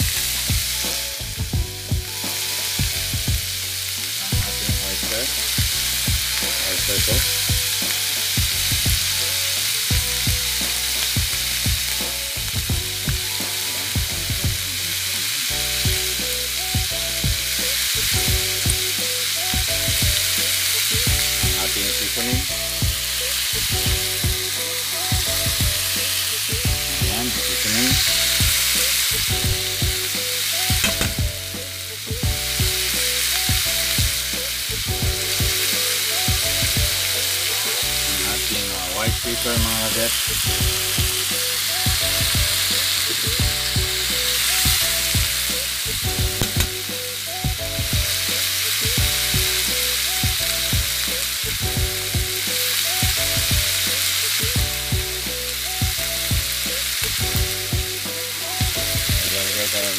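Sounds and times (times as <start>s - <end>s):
meat sizzling in a wok: 0.0s - 59.9s.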